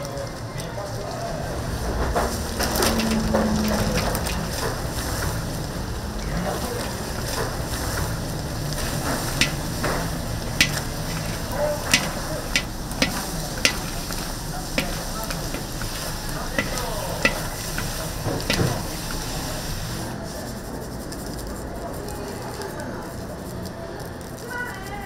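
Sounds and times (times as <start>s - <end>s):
chicken frying sizzle: 0.0s - 20.2s.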